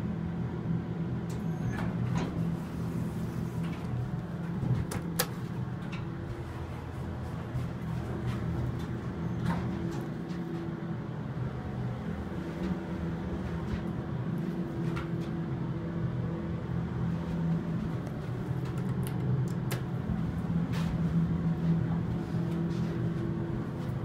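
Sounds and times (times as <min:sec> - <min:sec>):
elevator machinery hum: 0:00.0 - 0:24.0.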